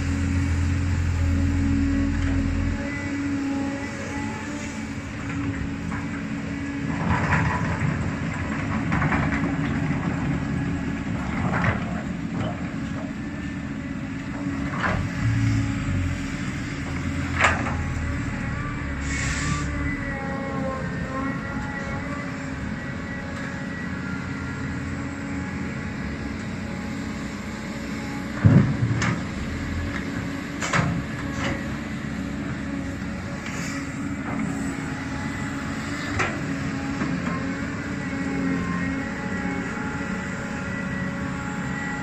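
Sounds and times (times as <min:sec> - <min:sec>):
excavator diesel engine: 0:00.0 - 0:42.0.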